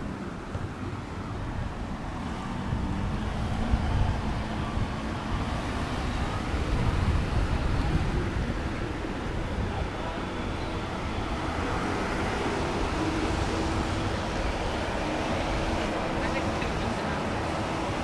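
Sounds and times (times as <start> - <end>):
cars passing: 0.0 - 18.0
road traffic rumble: 0.0 - 18.0.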